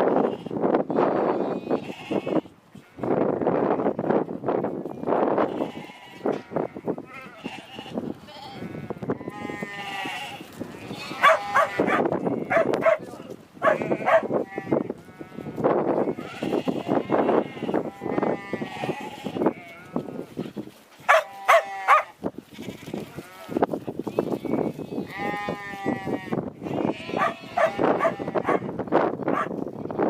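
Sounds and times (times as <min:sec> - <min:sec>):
sheep bleating: 0:00.1 - 0:03.1, 0:05.4 - 0:13.0, 0:13.6 - 0:20.3, 0:21.1 - 0:28.7.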